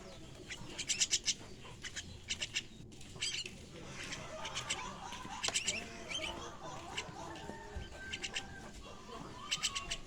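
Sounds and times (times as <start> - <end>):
starling chicks squawking: 0.0 - 10.0.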